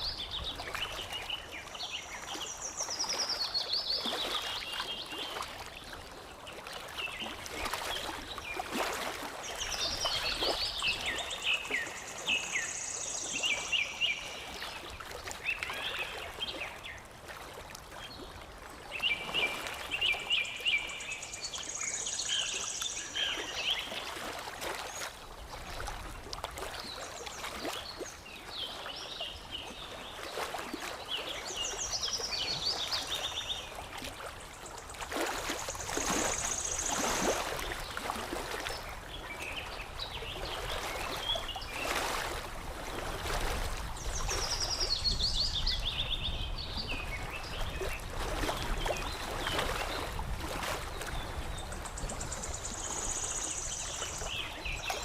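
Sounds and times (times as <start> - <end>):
water lapping and trickling: 0.0 - 55.0.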